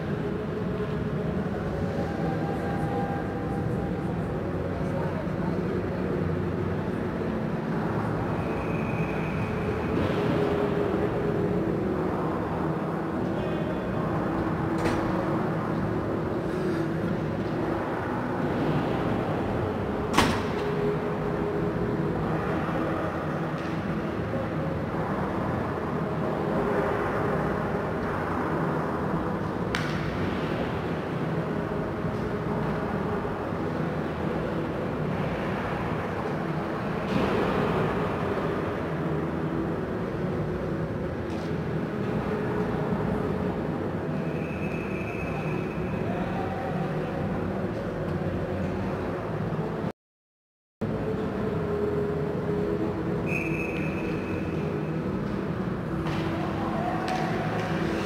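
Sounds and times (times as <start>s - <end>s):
ice rink arena noise: 0.0s - 49.9s, 50.8s - 58.0s.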